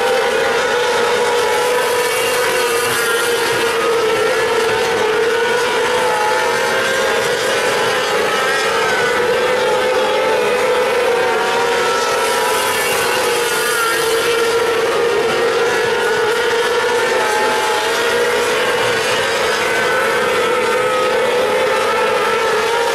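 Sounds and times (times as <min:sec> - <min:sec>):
racing car engines at high revs: 0:00.0 - 0:22.9.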